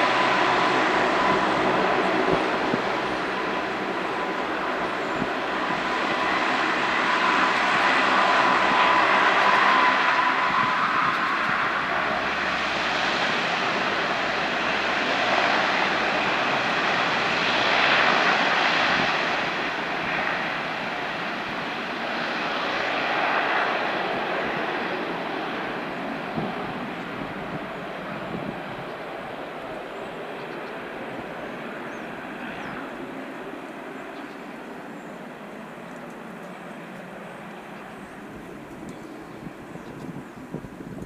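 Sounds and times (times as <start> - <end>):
propeller drone: 0.0 - 41.0
turbine whine: 0.0 - 41.0.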